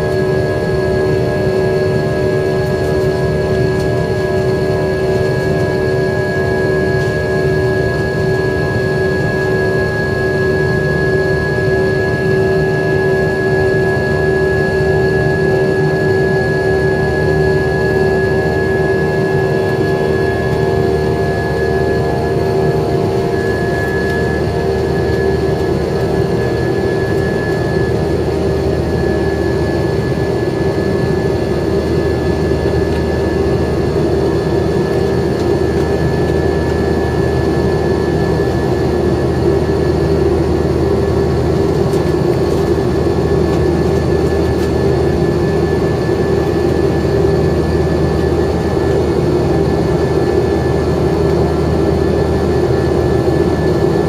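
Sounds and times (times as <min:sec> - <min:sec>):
jet engine drone: 0:00.0 - 0:54.0.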